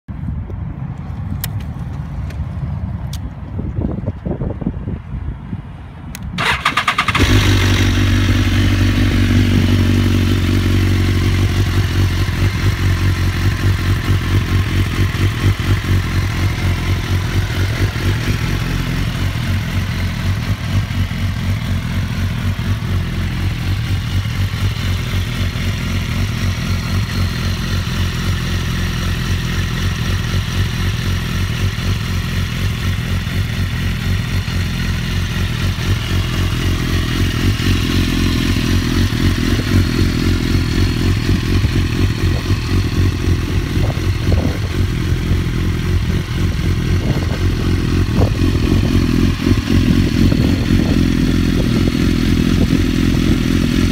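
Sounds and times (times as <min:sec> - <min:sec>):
motorcycle engine idling: 0:06.4 - 0:53.9.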